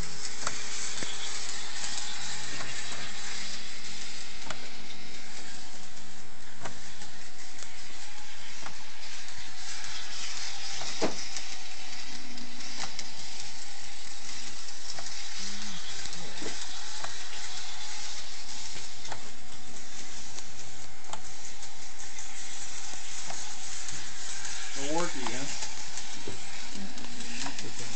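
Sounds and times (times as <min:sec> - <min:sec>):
model train wheels on track: 0:00.0 - 0:27.9
wheels clicking over rail joints: 0:00.0 - 0:27.9.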